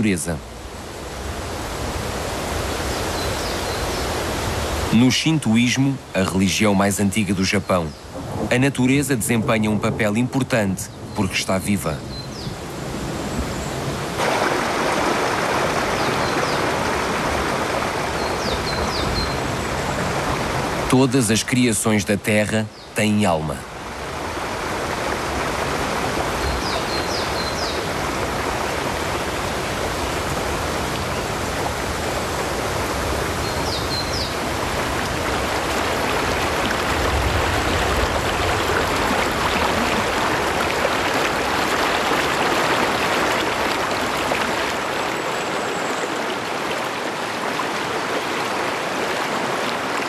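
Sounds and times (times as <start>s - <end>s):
waterfall rushing: 0.0s - 11.7s, 13.9s - 22.2s, 23.0s - 50.0s.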